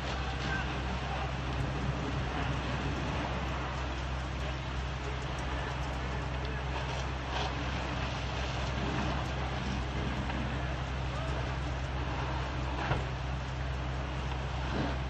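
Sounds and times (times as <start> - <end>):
fire engine engine running: 0.0 - 15.0.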